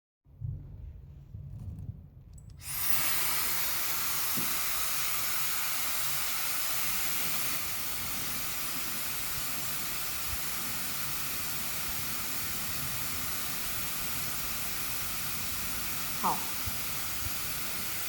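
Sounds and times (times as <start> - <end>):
hair dryer blowing air: 2.6 - 18.0.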